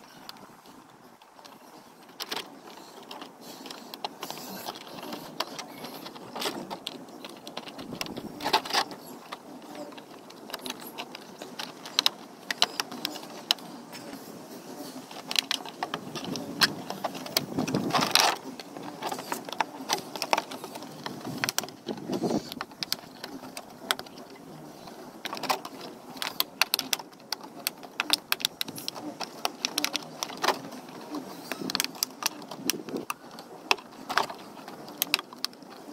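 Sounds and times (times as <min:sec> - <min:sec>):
rustling handling noises: 0:00.0 - 0:35.9
wire clicking against plastic: 0:00.0 - 0:35.9.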